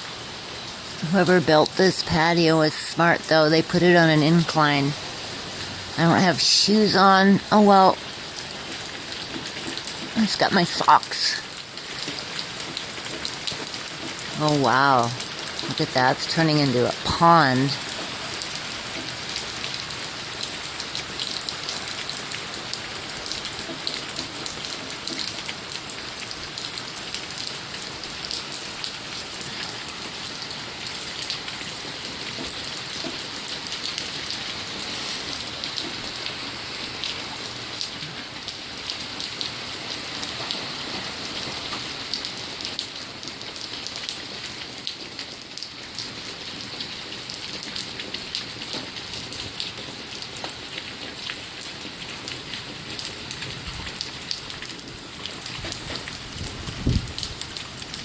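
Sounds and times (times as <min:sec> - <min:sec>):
rain splashing into pooled water: 0:00.0 - 0:58.0.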